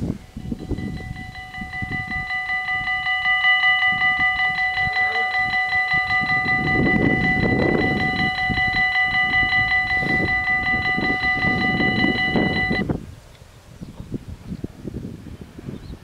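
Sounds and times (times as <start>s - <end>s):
level crossing warning bells: 0.0s - 12.9s.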